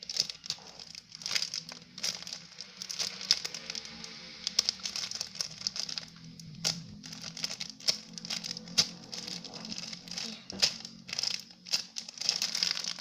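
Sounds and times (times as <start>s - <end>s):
squishy toy crinkling and rustling: 0.0s - 13.0s.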